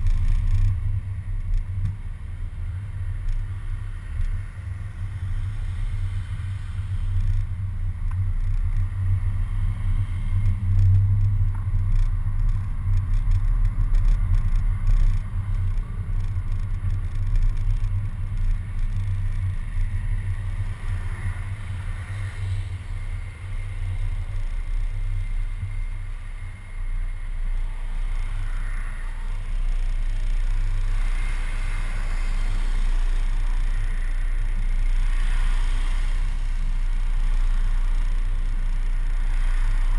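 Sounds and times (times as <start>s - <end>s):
bus engine rumble: 0.0s - 39.9s.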